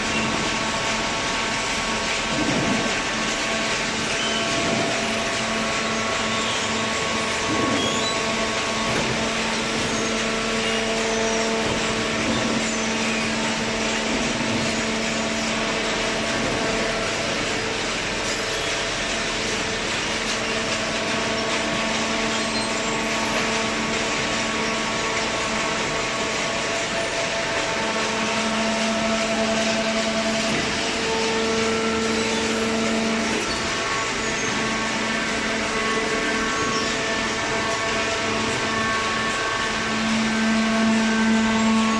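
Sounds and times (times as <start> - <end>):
hydraulic baler motor and pump: 0.0 - 41.9.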